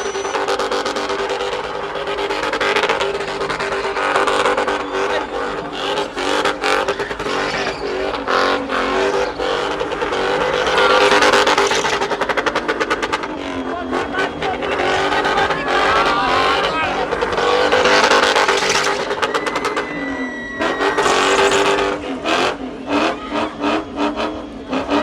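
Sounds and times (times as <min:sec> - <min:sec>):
car engine at high revs: 0:00.0 - 0:25.0
tyre squeal: 0:00.0 - 0:25.0.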